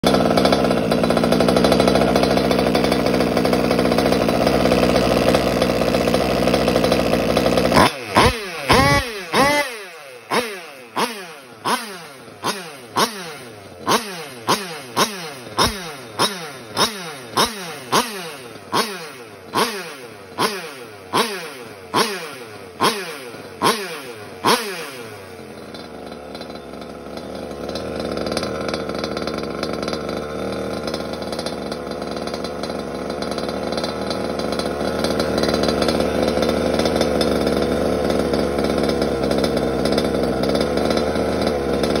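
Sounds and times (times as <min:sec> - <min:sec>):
scooter engine revving: 0:00.0 - 0:42.0.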